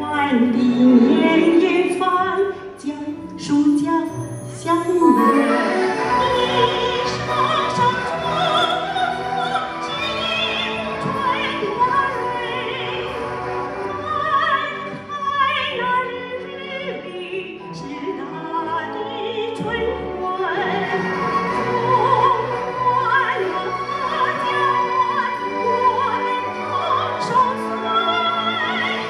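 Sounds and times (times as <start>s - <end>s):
orchestral accompaniment: 0.0s - 29.0s
woman singing operatically: 0.0s - 29.0s.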